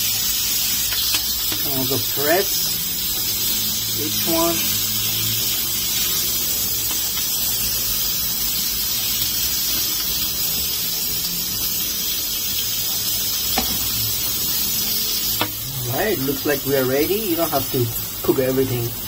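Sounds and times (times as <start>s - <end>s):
peppers sizzling in frying pan: 0.0s - 19.0s.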